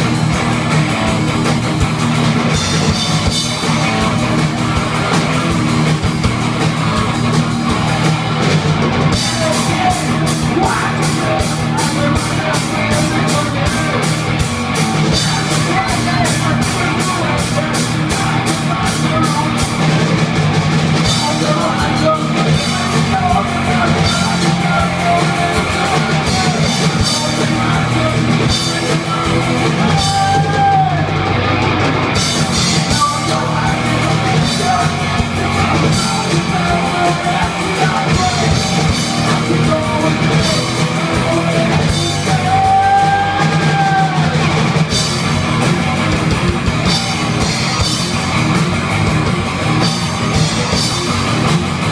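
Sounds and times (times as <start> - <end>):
heavy metal band playing: 0.0 - 51.9
sung or shouted vocals: 2.3 - 48.6.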